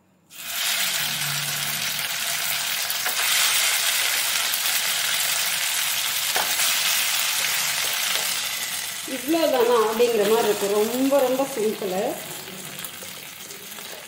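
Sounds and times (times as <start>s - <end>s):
food sizzling in hot fat: 0.3s - 14.0s.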